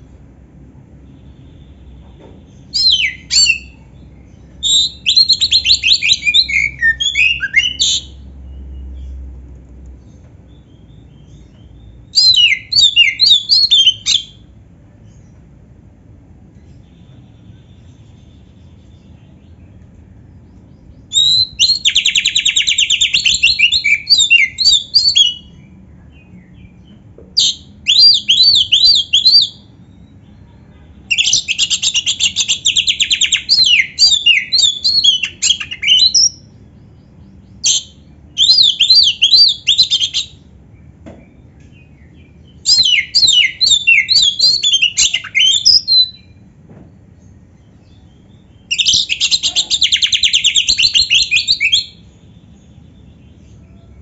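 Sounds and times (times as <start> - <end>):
songbird singing with trills and whistles: 1.0 - 15.5, 16.4 - 54.0.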